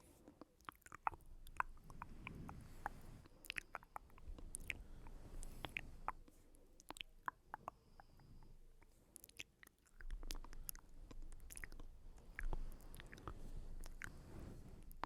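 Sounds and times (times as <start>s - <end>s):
wet mouth clicks and smacks: 0.3s - 2.2s, 2.8s - 8.0s, 8.8s - 14.1s.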